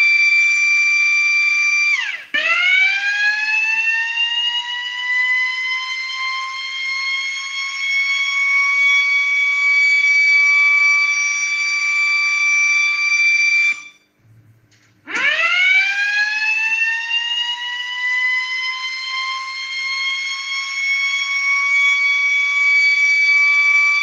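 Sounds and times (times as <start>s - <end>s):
electric motor siren wailing: 0.0s - 14.0s, 15.1s - 24.0s.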